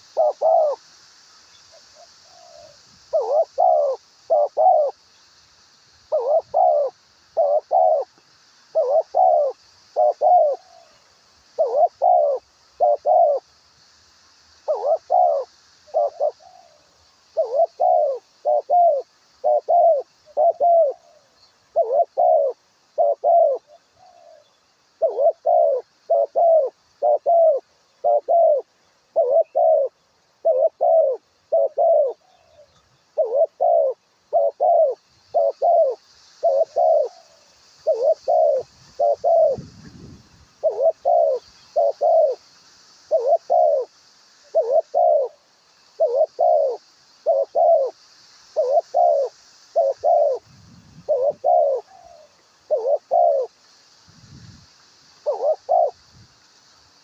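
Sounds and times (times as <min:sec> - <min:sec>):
dove cooing: 0:00.0 - 0:00.8, 0:02.0 - 0:05.0, 0:06.1 - 0:11.0, 0:11.6 - 0:13.5, 0:14.6 - 0:42.4, 0:43.1 - 0:45.4, 0:46.0 - 0:48.0, 0:48.6 - 0:53.6, 0:55.2 - 0:56.0
faint high hiss: 0:00.0 - 0:57.0.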